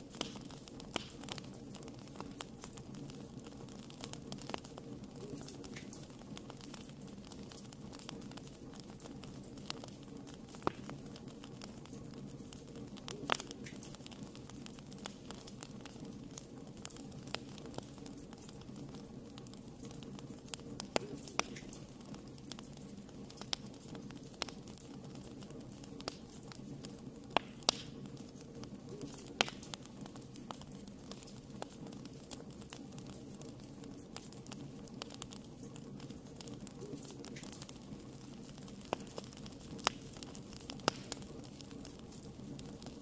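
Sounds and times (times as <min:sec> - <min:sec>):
fireplace fire crackling: 0:00.0 - 0:43.0.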